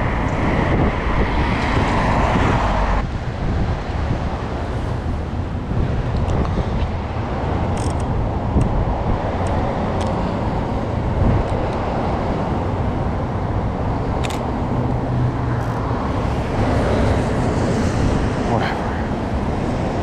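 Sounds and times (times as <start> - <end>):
street traffic rumble: 0.0 - 20.0
wind on microphone: 0.0 - 20.0.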